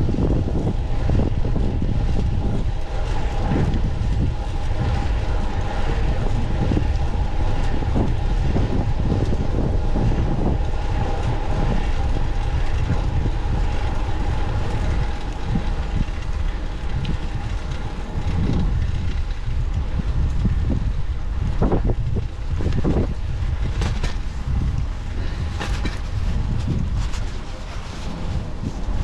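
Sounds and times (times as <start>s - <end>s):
low rumble: 0.0s - 29.0s
wind buffeting microphone: 0.0s - 29.0s.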